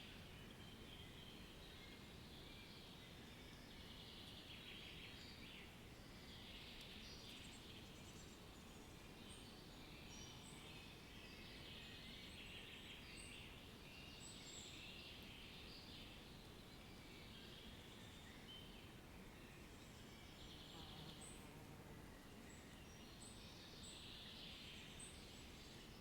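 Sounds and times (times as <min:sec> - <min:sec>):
low background hiss: 0:00.0 - 0:26.0.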